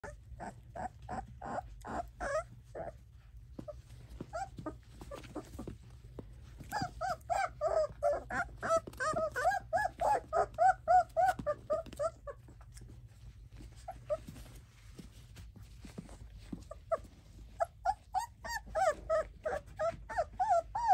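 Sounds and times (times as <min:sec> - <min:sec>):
puppies whimpering and yelping: 0:00.0 - 0:20.9.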